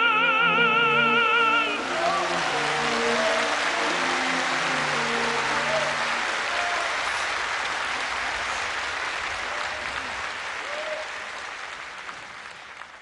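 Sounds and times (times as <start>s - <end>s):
audience applauding: 1.4s - 13.0s
calls from crowd: 1.5s - 13.0s.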